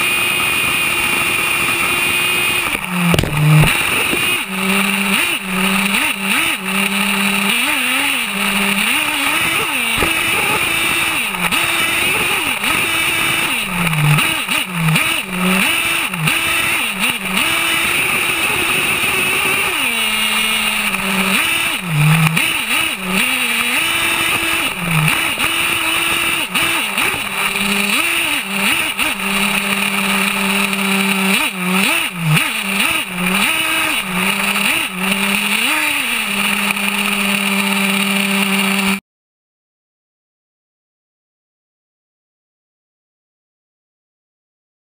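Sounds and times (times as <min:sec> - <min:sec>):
rc truck engine buzzing and revving: 0:00.0 - 0:39.0.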